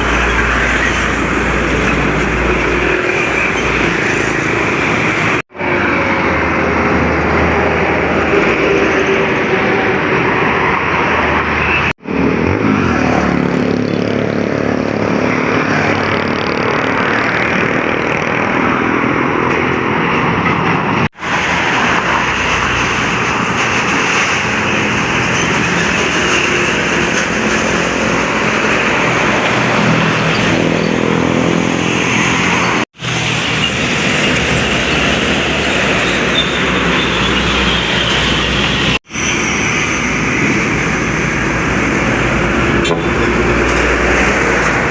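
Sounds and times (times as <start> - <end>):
truck diesel engines: 0.0 - 44.9
tyre and road noise: 0.0 - 44.9.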